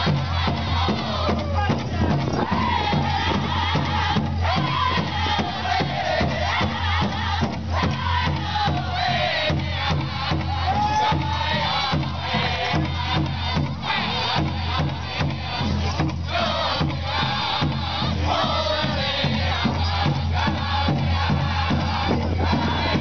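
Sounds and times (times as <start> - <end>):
big drum beating: 0.0 - 23.0
singers chanting: 0.0 - 23.0.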